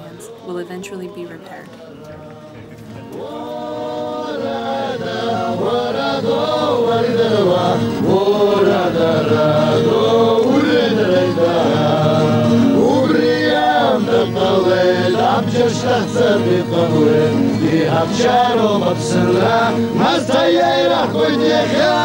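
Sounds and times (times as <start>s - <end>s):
choir chanting: 0.0s - 22.0s.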